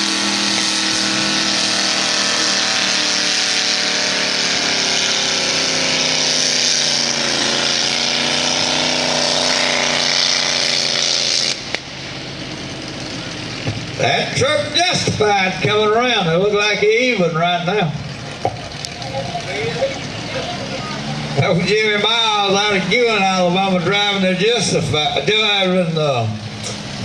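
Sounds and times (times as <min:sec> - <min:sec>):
truck engine revving high: 0:00.0 - 0:27.0.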